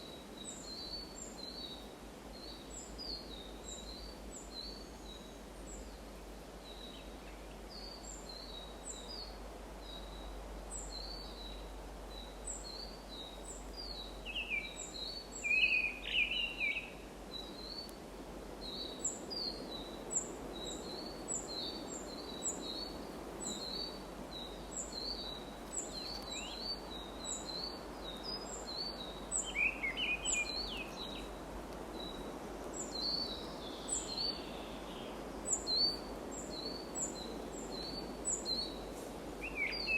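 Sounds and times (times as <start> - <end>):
lower bird calls: 6.7 - 18.0, 18.6 - 39.9.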